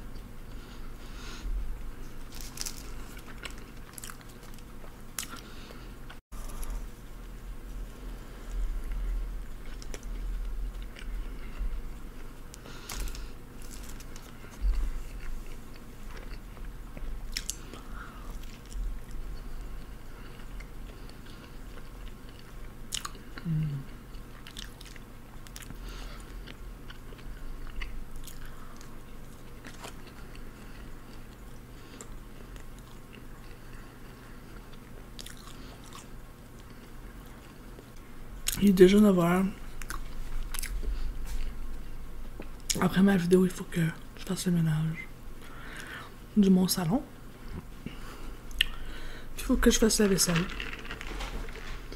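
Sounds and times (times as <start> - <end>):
person chewing a sandwich: 0.0 - 38.6, 39.6 - 42.8, 47.2 - 49.2, 50.5 - 51.9.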